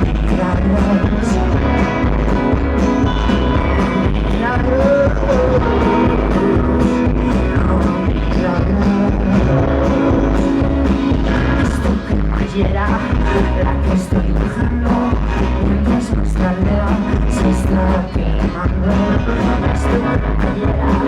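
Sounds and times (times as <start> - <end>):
live rock band playing: 0.0 - 21.0
steady drum beat: 0.0 - 21.0.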